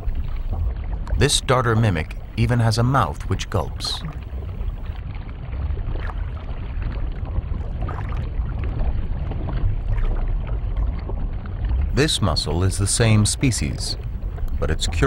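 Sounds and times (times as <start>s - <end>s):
stream water heard underwater: 0.0s - 15.0s.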